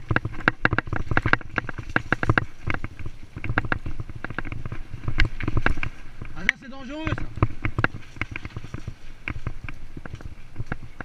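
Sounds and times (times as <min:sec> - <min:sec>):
bike rattling and knocking: 0:00.0 - 0:11.0
tyres rumbling on dirt: 0:00.0 - 0:11.0.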